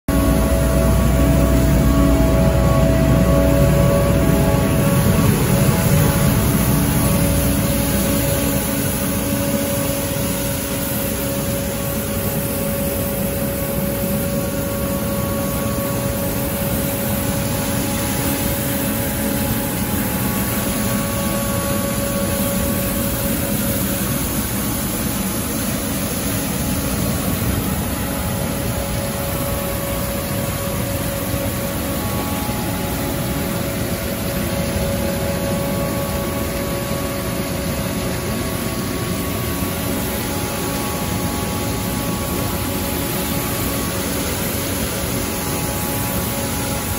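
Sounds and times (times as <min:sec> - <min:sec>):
constant whine: 0:00.1 - 0:46.9
street sweeper engine drone: 0:00.1 - 0:46.9.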